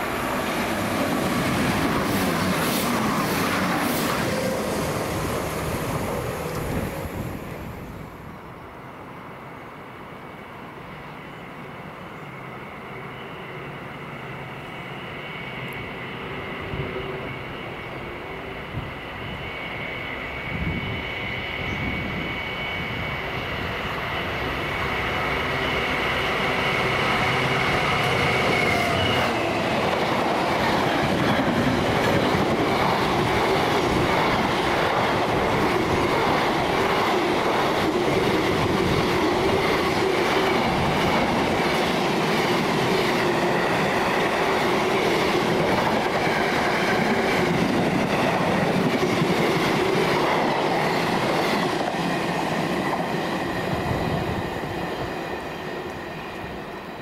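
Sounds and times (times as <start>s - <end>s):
locomotive high whine: 0.0s - 57.0s.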